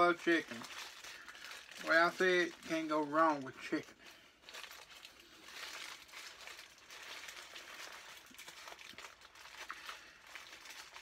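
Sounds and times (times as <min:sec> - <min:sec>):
paper bag rustling: 0:00.0 - 0:11.0.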